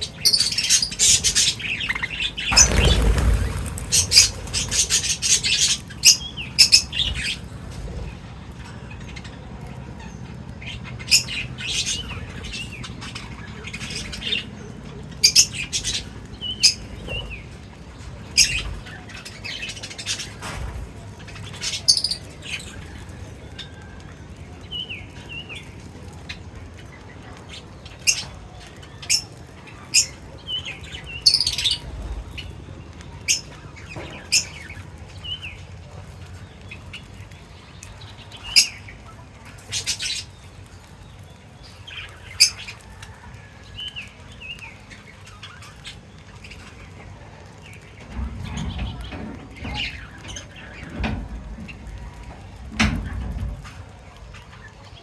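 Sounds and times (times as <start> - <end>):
pet birds chirping: 0.0 - 20.4, 21.1 - 52.6.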